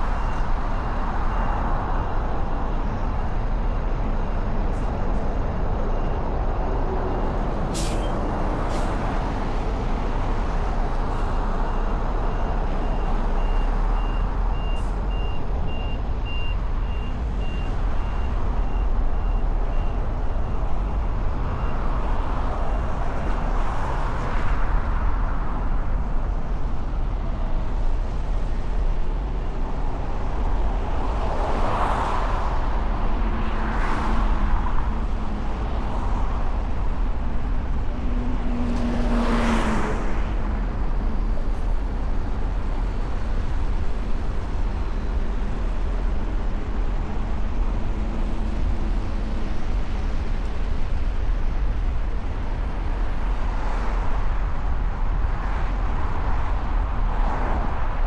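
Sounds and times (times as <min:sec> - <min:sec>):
traffic rumble of engines and tyres: 0:00.0 - 0:58.0
vehicles passing: 0:00.0 - 0:58.0.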